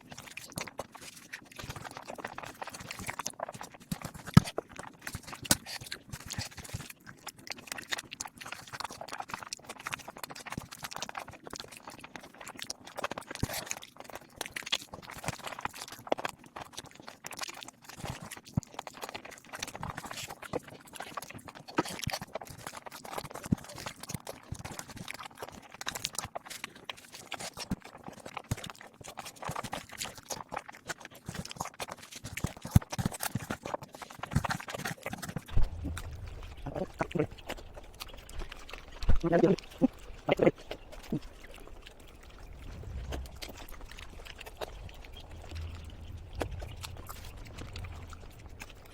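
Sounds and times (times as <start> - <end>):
sped-up chewing and lip smacks: 0.0 - 48.9.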